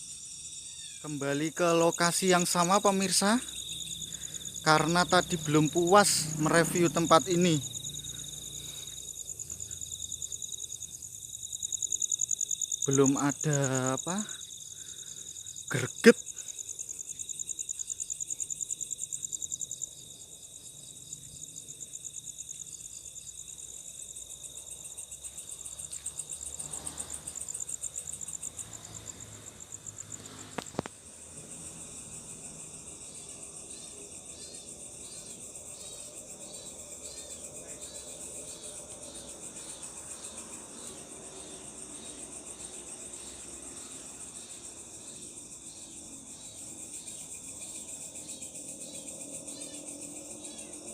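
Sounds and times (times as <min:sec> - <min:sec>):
crickets and insects trilling: 0:00.0 - 0:50.9.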